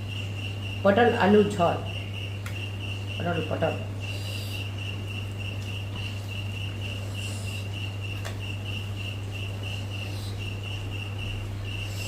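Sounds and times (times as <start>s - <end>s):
cricket chirping: 0.0s - 12.0s
low electrical hum: 0.0s - 12.0s.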